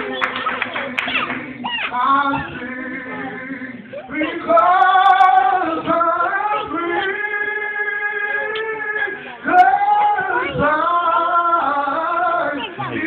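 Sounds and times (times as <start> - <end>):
voices singing slow melody: 0.0 - 13.0.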